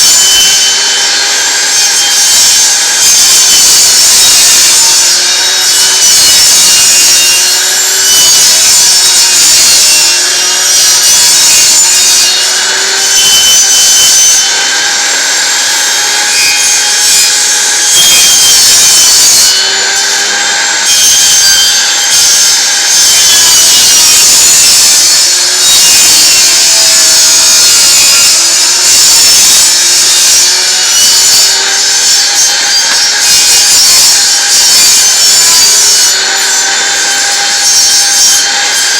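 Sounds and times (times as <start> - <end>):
table saw cutting plywood: 0.0 - 38.9.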